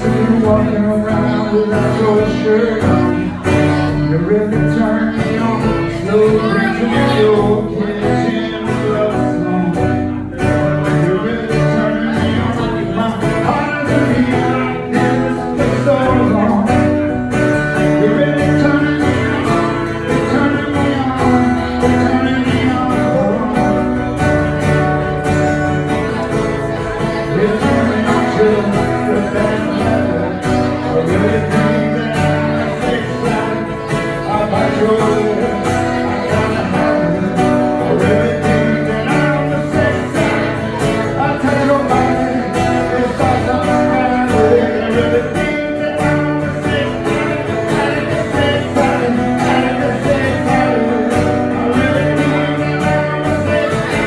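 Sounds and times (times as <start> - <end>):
acoustic guitar: 0.0 - 54.0
person singing: 0.0 - 54.0.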